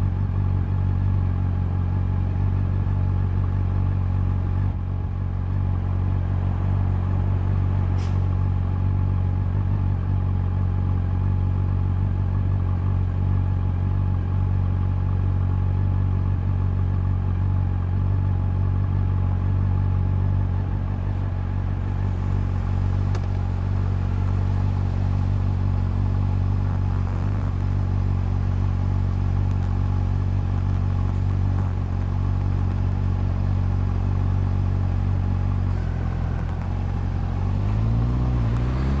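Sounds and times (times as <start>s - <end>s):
motorcycle engine running steadily: 0.0s - 39.0s.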